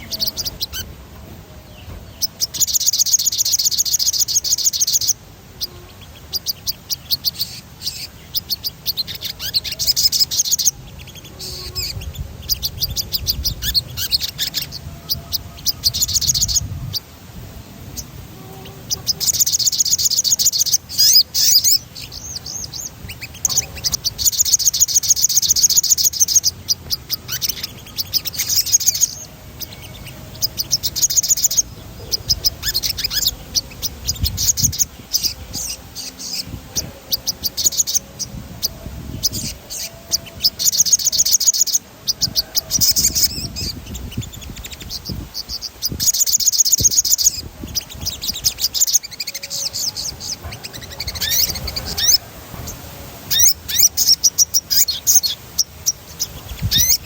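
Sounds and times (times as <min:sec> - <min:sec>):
songbird trilling: 0:00.0 - 0:01.0, 0:01.6 - 0:57.0.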